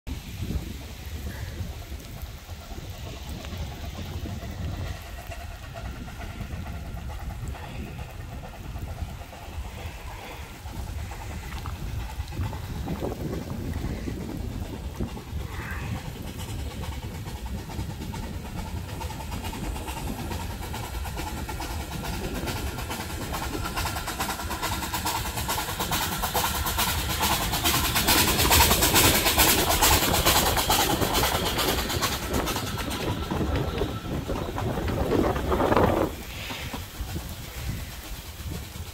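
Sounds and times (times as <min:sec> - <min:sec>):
steam train running past: 0:00.1 - 0:38.9.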